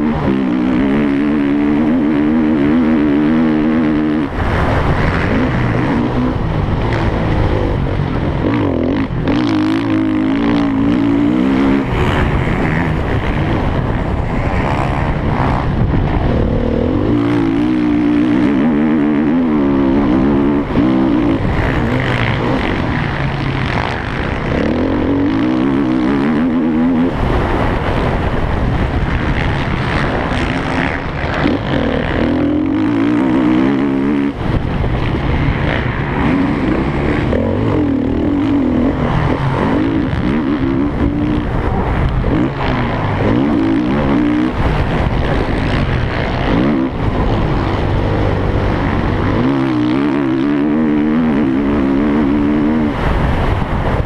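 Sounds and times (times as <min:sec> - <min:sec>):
motocross bike engine revving: 0:00.0 - 0:54.0
rough rushing noise: 0:00.0 - 0:54.0.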